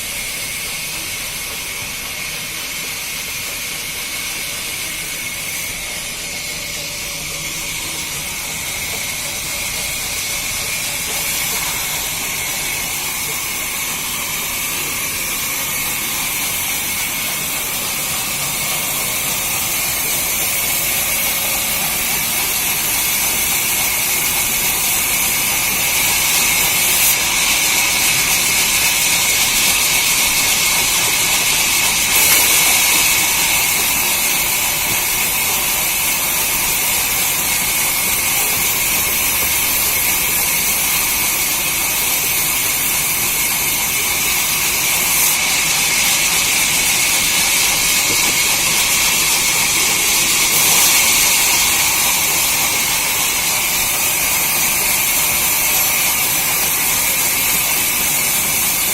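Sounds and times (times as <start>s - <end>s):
sawmill machinery hissing: 0.0s - 58.9s.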